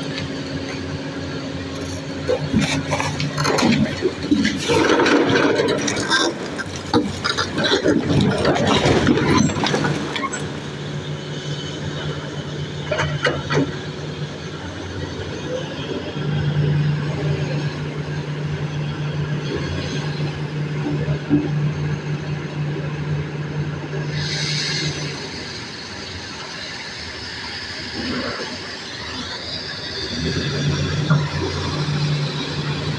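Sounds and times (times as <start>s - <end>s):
excavator diesel engine humming: 0.0s - 32.9s.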